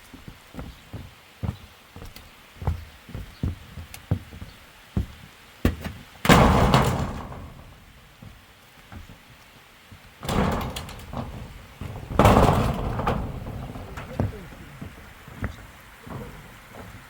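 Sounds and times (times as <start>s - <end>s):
dull knocks: 0.3s - 9.2s, 9.9s - 17.0s.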